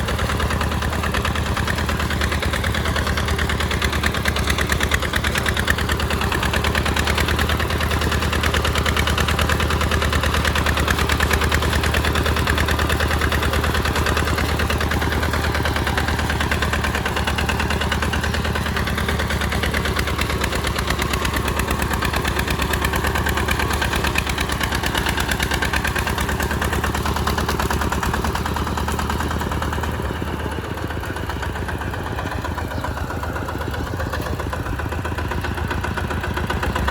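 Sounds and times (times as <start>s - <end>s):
diesel engine chugging: 0.0s - 36.9s.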